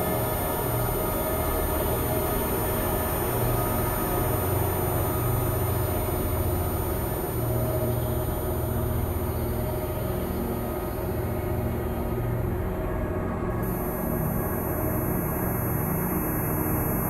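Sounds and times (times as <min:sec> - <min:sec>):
ambient drone: 0:00.0 - 0:17.0.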